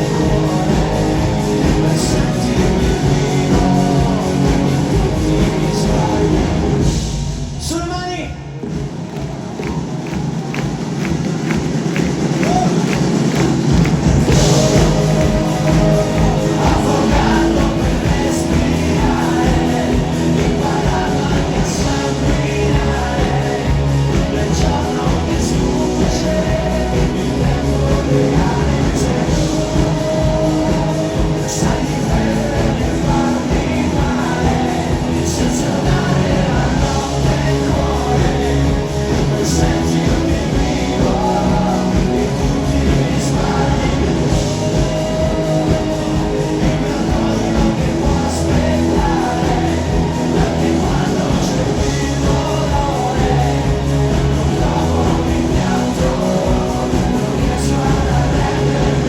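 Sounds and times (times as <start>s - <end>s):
person singing: 0.0s - 6.8s, 12.4s - 59.0s
electric guitars: 0.0s - 7.6s, 8.4s - 59.0s
drums: 0.0s - 59.0s
rock band playing live: 0.0s - 59.0s.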